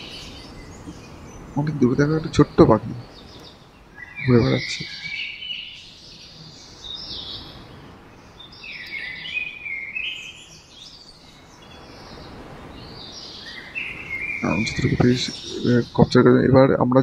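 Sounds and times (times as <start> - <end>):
birds chirping: 0.0 - 17.0
faint background hiss: 0.0 - 17.0.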